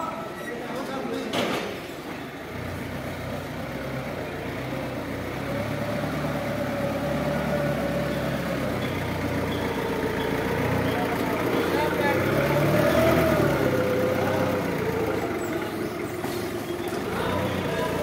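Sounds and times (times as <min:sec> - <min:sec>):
forklift engine running: 0:02.0 - 0:18.0.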